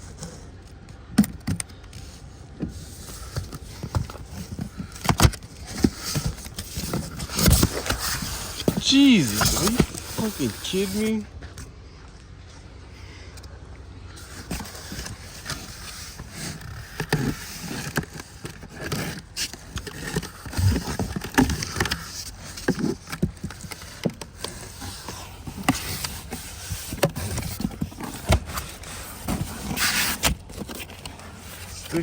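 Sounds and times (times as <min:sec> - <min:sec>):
cardboard box being unpacked: 0:02.6 - 0:11.2, 0:14.2 - 0:32.0.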